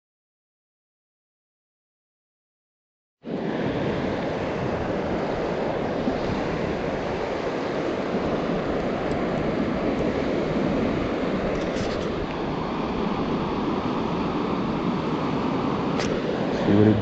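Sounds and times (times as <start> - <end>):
turbulent water rushing in channel: 3.3 - 17.0
wind buffeting microphone: 3.3 - 17.0.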